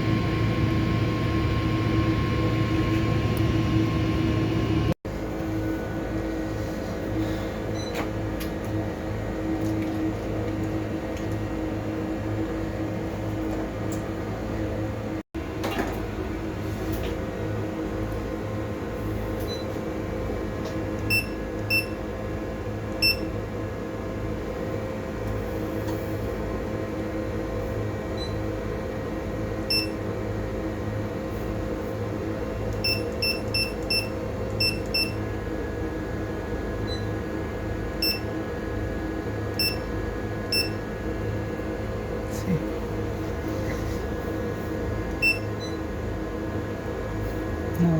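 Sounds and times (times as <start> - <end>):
low machinery hum: 0.0 - 47.9.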